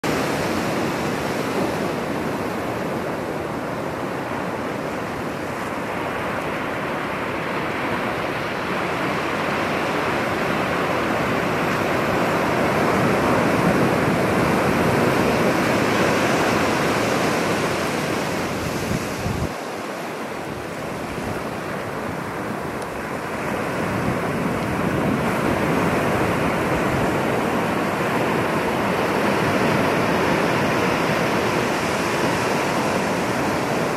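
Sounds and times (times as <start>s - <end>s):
ocean surf breaking: 0.0s - 33.9s.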